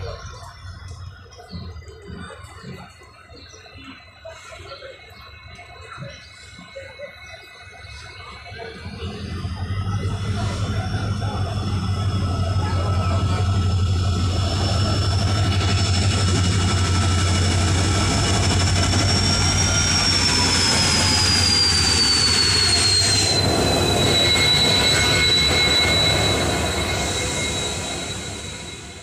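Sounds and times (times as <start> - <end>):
diesel locomotive passing: 0.0 - 29.0
train wheel noise: 0.0 - 29.0.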